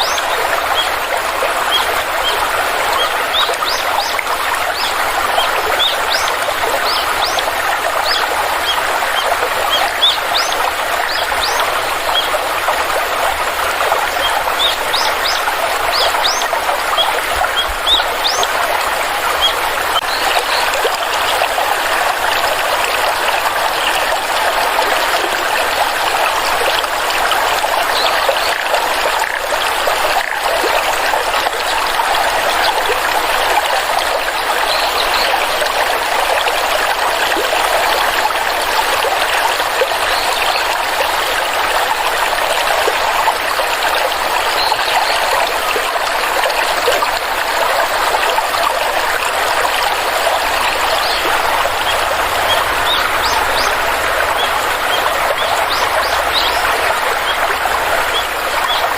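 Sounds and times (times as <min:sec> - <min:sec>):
water stream trickling: 0:00.0 - 0:58.9.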